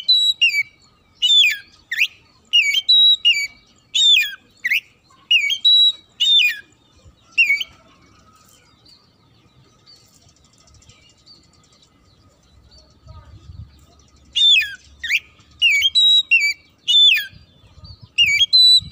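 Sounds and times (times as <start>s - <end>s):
bird whistling song: 0.0s - 18.9s
faint bird twittering: 0.0s - 18.9s.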